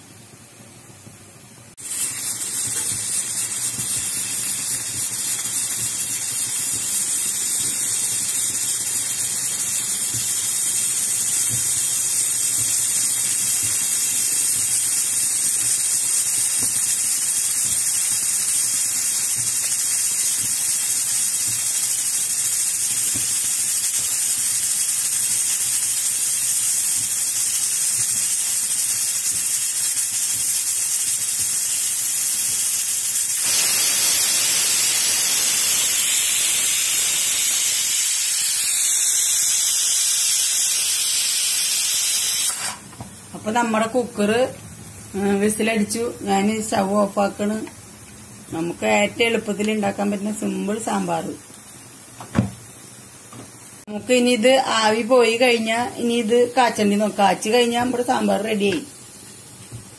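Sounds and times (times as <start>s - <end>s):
pressure cooker hissing: 1.7s - 59.9s
steam jetting from pressure cooker: 1.7s - 59.9s.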